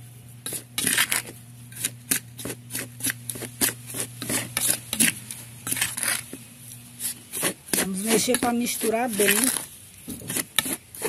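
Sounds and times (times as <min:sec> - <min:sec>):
metal spoon scraping dry powder: 0:00.4 - 0:06.4, 0:07.0 - 0:11.0.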